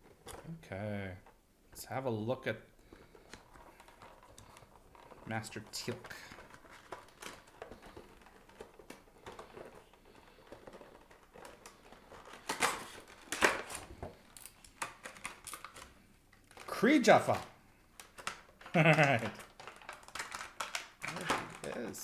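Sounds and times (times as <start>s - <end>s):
packaging rustling and scraping: 2.8s - 22.0s.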